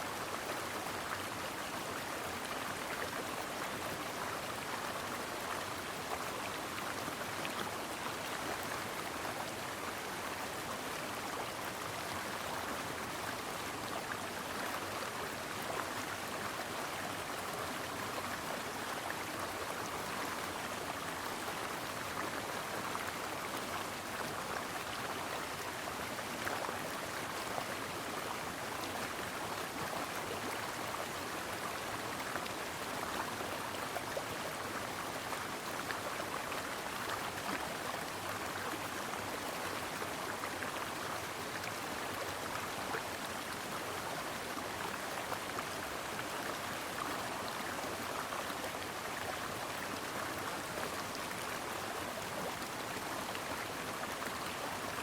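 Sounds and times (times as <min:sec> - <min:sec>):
stream babbling over rocks: 0:00.1 - 0:55.0.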